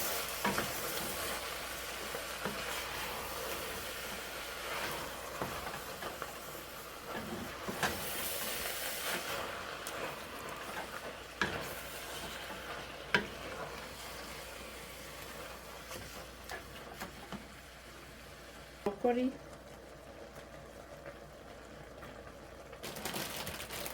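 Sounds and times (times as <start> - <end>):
food sizzling in a pan: 0.0 - 21.8.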